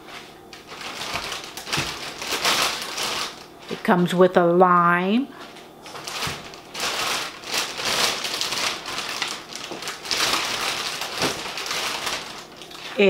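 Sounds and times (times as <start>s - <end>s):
plastic bags crinkling: 0.4s - 3.9s, 5.4s - 13.0s.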